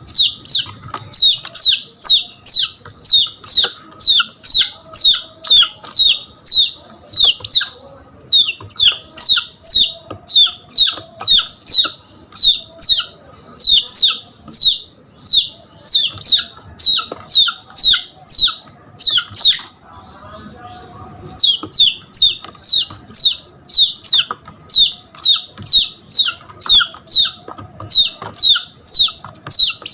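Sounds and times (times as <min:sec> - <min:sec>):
chick distress peeps: 0:00.0 - 0:20.2, 0:21.3 - 0:29.9.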